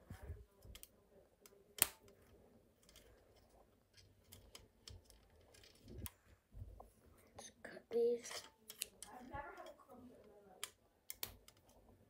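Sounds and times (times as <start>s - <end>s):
light clicks of rubber bands on loom: 0.0s - 6.9s, 8.2s - 12.0s.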